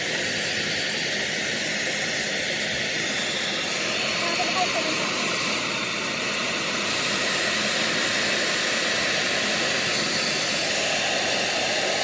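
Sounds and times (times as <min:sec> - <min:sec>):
hair dryer blowing air: 0:00.0 - 0:12.0.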